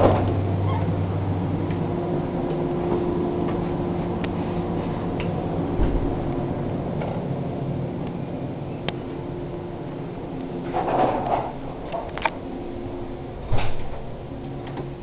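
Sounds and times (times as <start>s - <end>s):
train car rumble and hum: 0.0s - 15.0s.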